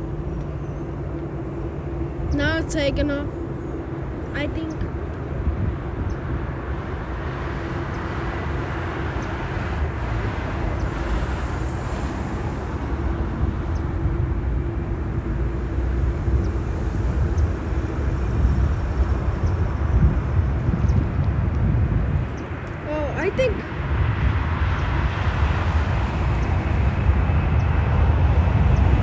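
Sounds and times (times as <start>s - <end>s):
jet airliner engines rumbling: 0.0s - 29.0s.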